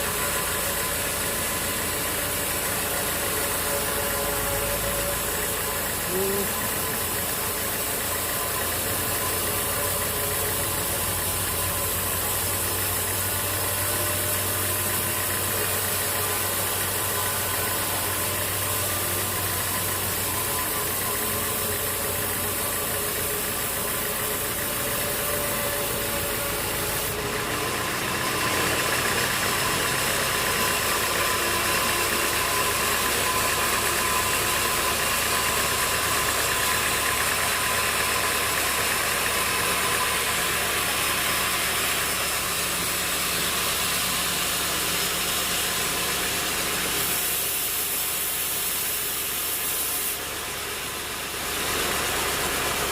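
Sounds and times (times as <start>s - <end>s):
sawmill machinery humming and rattling: 0.0s - 52.9s.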